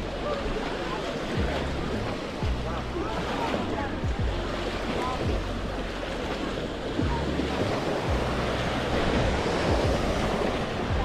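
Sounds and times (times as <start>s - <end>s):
waves washing onto sandy beach: 0.0s - 11.0s
wind rumbling on microphone: 0.0s - 11.0s.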